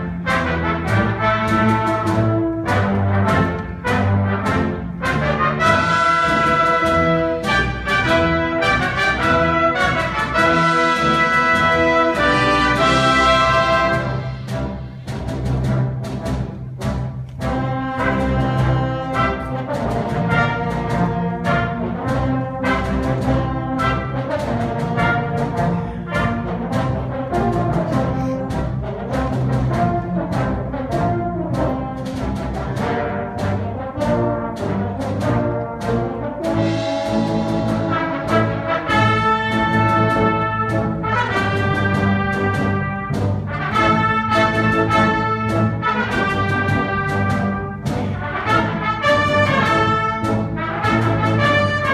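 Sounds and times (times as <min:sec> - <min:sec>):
brass ensemble playing march: 0:00.0 - 0:51.9.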